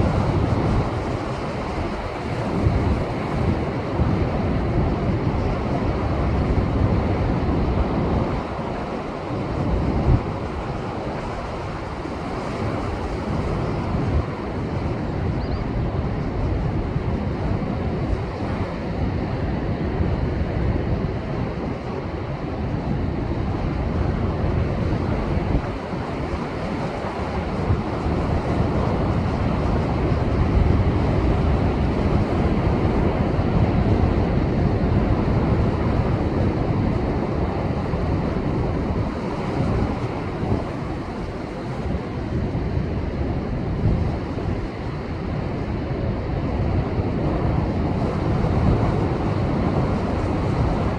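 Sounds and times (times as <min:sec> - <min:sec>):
wind on microphone: 0:00.0 - 0:50.9.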